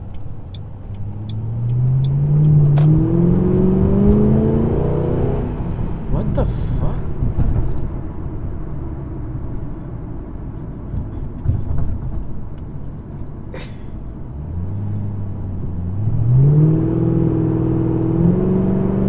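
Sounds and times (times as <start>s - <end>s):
car engine accelerating: 0.0s - 19.0s
road rumble: 0.0s - 19.0s.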